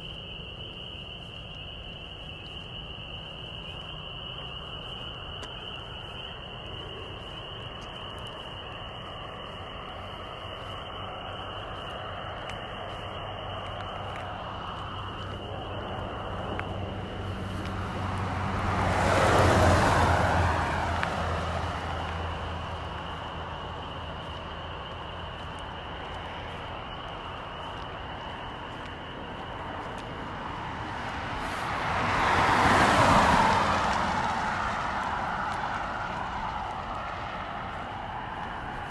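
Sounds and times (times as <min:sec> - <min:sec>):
road vehicles driving past: 0:00.0 - 0:38.9.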